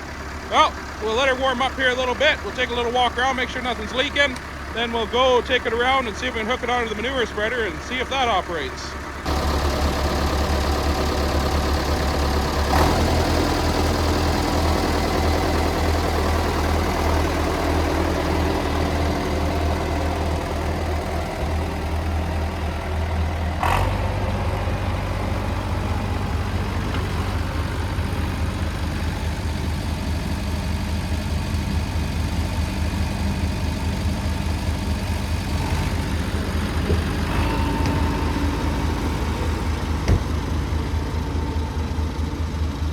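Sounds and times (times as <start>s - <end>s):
tractor engine idling: 0.0s - 42.9s.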